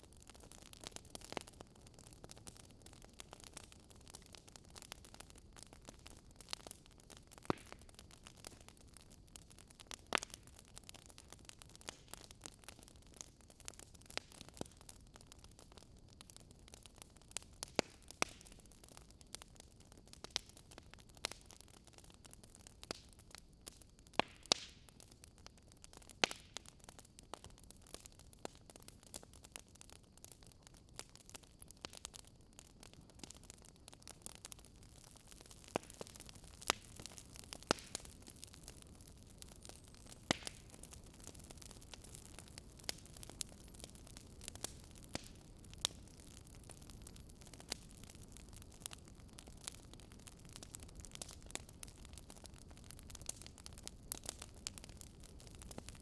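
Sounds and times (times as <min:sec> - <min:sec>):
fireplace crackling and popping: 0:00.0 - 0:56.0
low steady hiss: 0:00.0 - 0:56.0.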